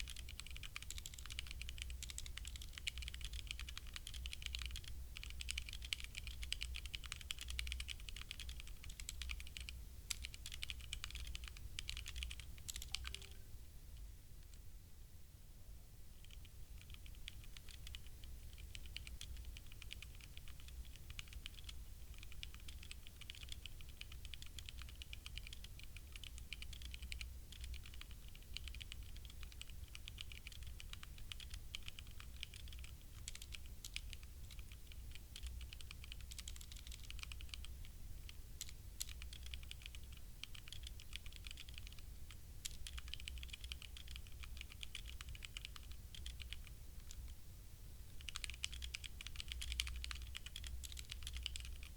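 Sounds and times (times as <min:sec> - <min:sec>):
mechanical keyboard typing: 0:00.0 - 0:13.4, 0:16.2 - 0:47.4, 0:48.2 - 0:51.9.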